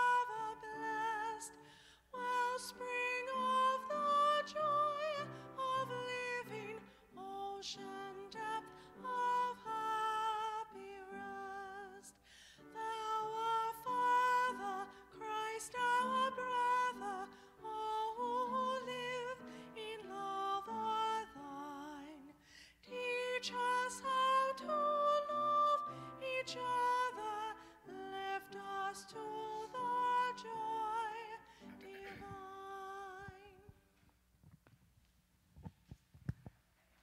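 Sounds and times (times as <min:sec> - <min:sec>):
woman singing a hymn: 0:00.0 - 0:33.8.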